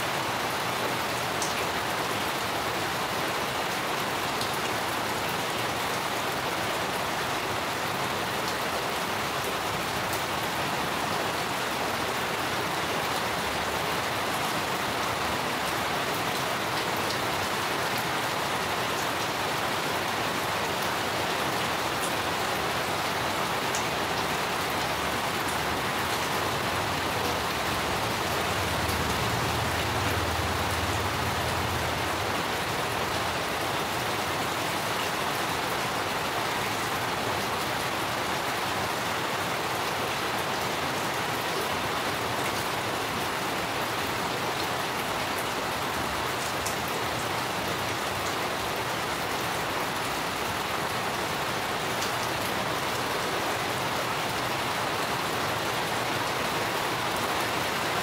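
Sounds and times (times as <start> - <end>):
steady rain on plants: 0.0 - 58.0.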